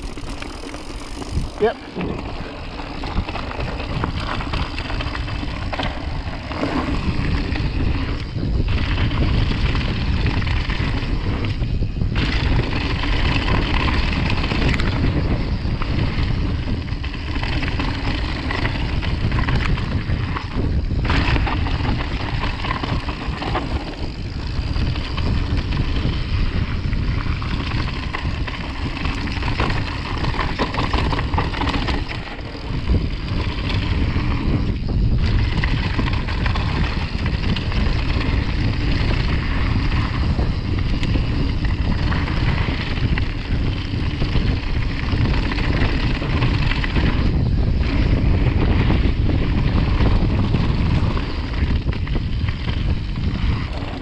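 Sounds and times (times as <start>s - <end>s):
bike tyres rolling on gravel: 0.0s - 54.0s
wind noise on microphone: 0.0s - 54.0s.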